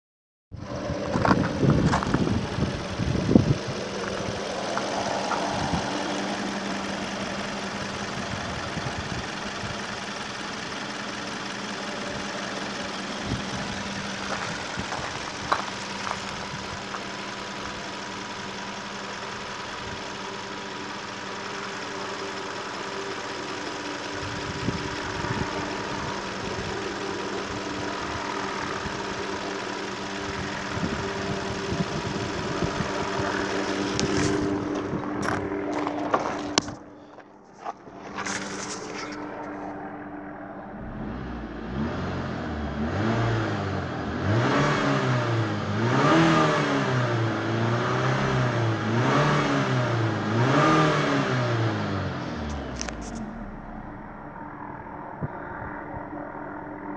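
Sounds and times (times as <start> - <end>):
car engine idling: 0.6 - 56.9
car engine revving: 0.6 - 56.9.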